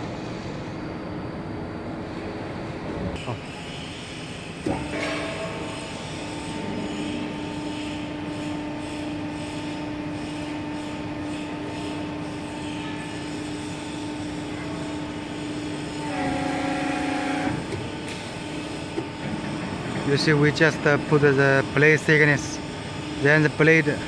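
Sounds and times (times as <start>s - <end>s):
hydraulic pump motor humming: 4.1s - 24.0s.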